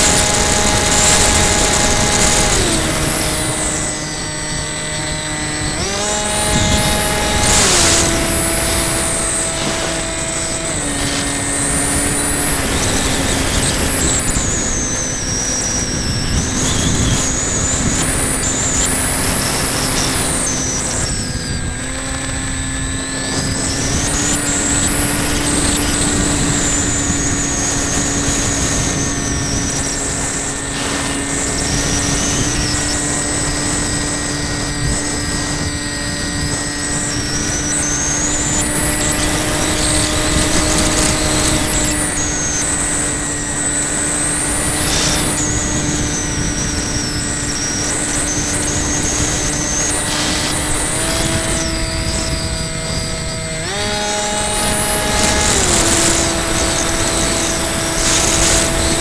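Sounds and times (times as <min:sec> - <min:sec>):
model plane motor whine: 0:00.0 - 0:59.0.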